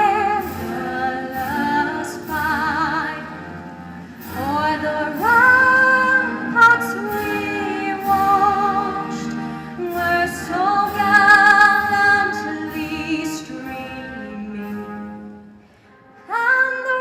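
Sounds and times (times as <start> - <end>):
woman singing with vibrato: 0.0 - 15.6, 16.3 - 17.0.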